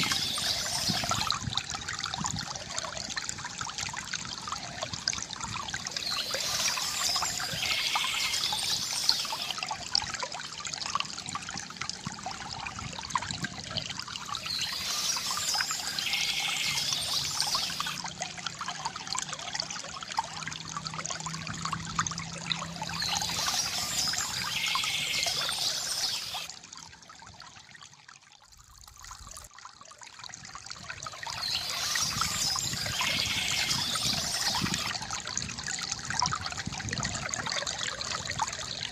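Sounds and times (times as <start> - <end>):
water trickling from bamboo fountain: 0.0 - 38.9.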